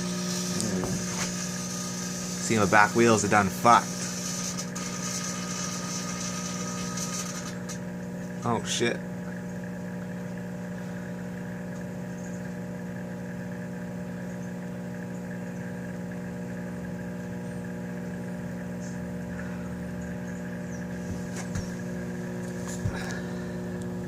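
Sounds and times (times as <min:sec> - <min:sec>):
microwave oven humming: 0:00.0 - 0:24.0.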